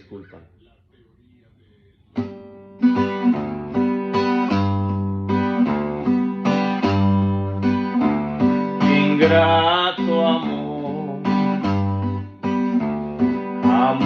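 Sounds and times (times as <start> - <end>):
guitar strumming bass notes: 2.1 - 14.0.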